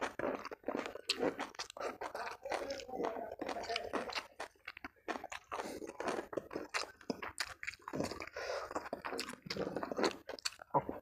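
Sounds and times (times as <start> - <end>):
chewing with mouth clicks: 0.0 - 11.0.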